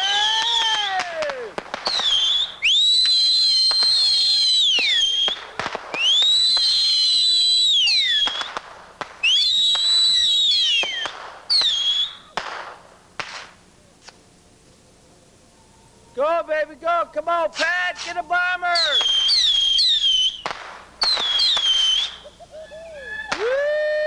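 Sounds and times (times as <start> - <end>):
whistling fireworks shrieking: 0.0 - 14.5, 15.3 - 24.0
sharp fireworks pops: 0.0 - 14.8, 17.5 - 22.5, 23.3 - 23.6.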